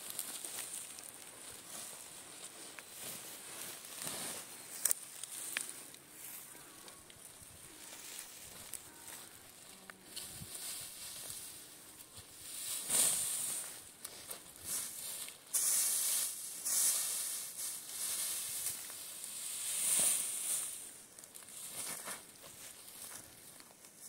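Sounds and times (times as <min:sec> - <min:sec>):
dry stalks rustling and crackling: 0:00.0 - 0:24.0.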